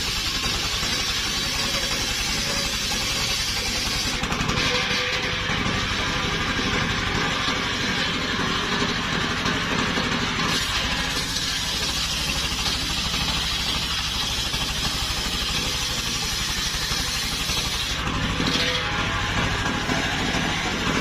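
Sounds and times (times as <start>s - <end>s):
circular saw blade cutting log: 0.0s - 21.0s
sawmill engine pulsing: 0.0s - 21.0s.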